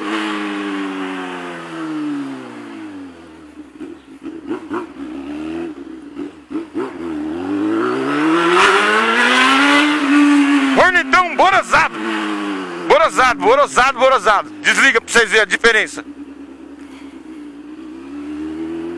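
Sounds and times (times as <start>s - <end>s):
motorcycle engine: 0.0s - 18.9s.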